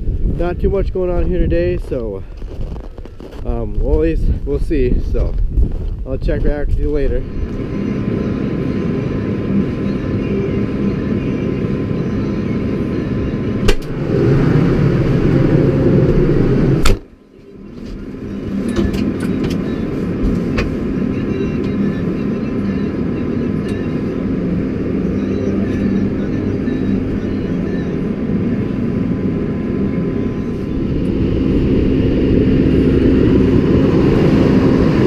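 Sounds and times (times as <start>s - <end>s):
tractor engine running: 6.8s - 35.0s.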